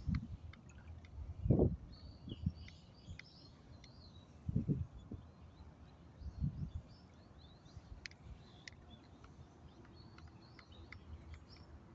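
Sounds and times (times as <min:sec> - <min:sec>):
faint outdoor background noise: 0:00.0 - 0:11.9
small birds chirping: 0:00.0 - 0:11.9.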